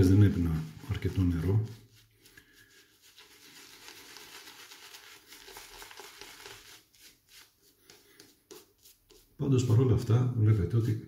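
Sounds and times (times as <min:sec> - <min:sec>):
shaving brush swishing lather: 0:00.0 - 0:09.8.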